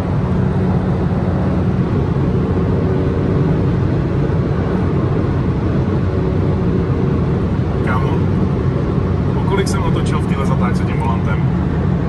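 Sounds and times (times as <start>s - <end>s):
car engine drone in cabin: 0.0s - 12.0s.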